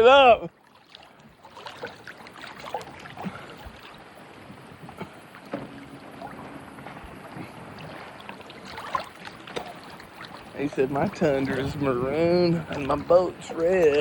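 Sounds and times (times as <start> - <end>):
water noise: 0.0 - 14.0
wind: 0.0 - 14.0
steady low hum: 1.3 - 14.0.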